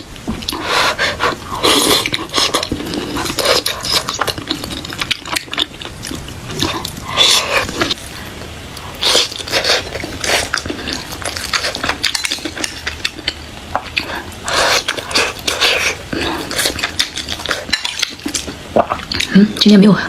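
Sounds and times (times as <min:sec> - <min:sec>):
wet chewing and smacking: 0:00.0 - 0:19.8.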